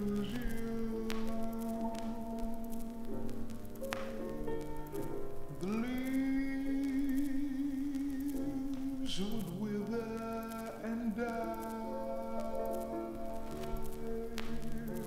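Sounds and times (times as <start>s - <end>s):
sustained background notes: 0.0s - 15.0s.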